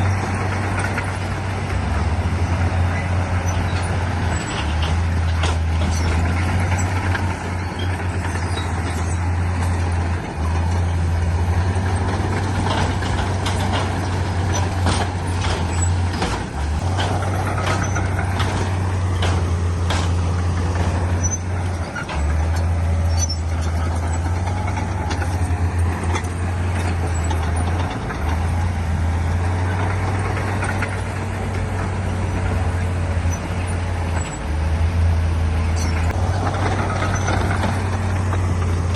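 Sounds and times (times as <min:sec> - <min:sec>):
heavy diesel machinery droning: 0:00.0 - 0:38.9
knocks and clatter: 0:00.0 - 0:38.9.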